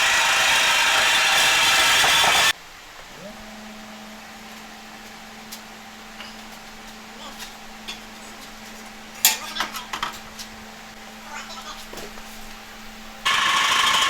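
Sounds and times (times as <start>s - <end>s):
power tool working: 0.0s - 11.2s, 11.9s - 14.0s
steady hum rising in pitch: 0.0s - 14.0s.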